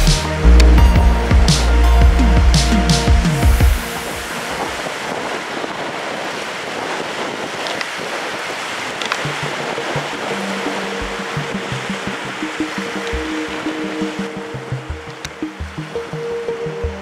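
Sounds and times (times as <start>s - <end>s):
wind and surf rushing: 0.0s - 17.0s
wind buffeting microphone: 0.4s - 16.1s.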